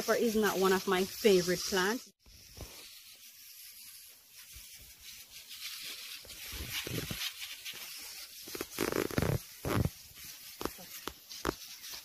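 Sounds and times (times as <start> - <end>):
rustling: 0.0 - 12.0
sprayer hissing: 0.0 - 12.0.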